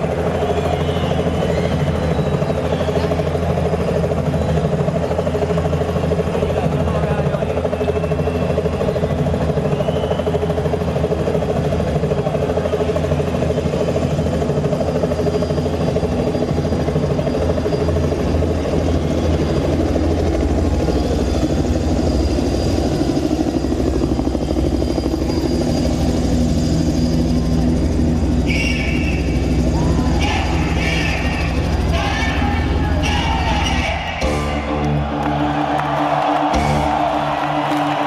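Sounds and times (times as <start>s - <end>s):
helicopter rotor chop: 0.0s - 38.0s.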